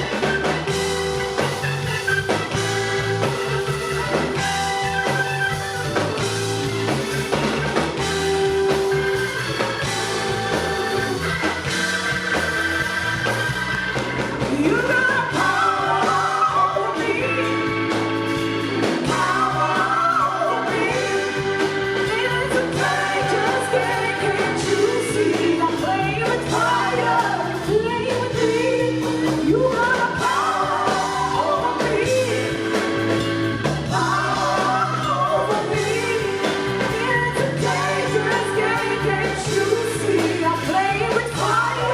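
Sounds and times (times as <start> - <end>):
bending electric guitar lead: 0.0 - 41.9
blues rock band playing: 0.0 - 41.9.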